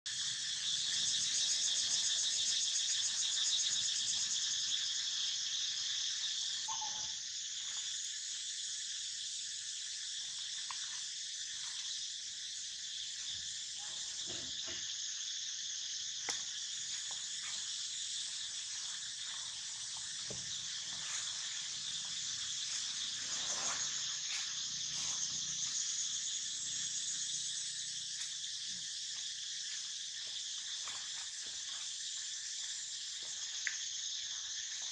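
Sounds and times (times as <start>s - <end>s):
insect chorus drone: 0.1s - 34.9s.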